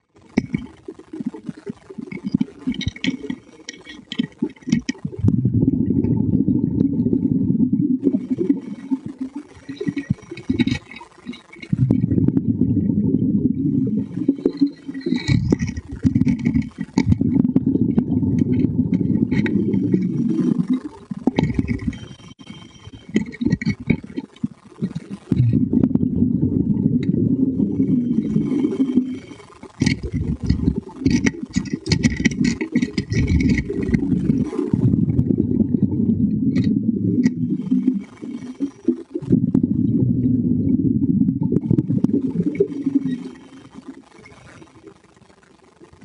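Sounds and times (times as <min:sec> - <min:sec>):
underwater clicks and crackle: 0:00.0 - 0:46.0
underwater rumble and bubbling: 0:00.0 - 0:46.0.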